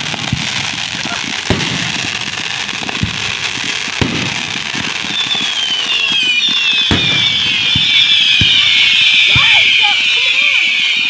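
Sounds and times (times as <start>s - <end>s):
firework booms: 0.0s - 10.9s
firework crackle: 0.0s - 11.0s
high descending firework whistles: 0.0s - 11.0s.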